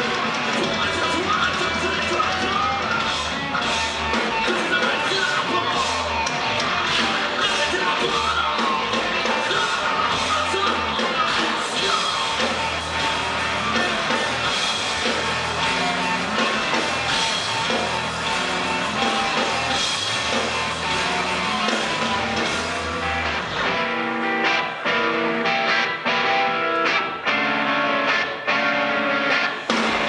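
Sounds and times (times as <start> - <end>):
electric guitar: 0.0 - 30.0
heavy rock band playing live: 0.0 - 30.0.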